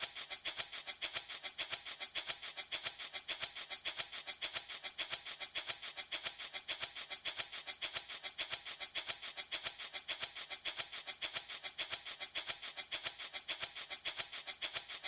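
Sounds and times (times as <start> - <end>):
baby rattle shaking: 0.0 - 15.0.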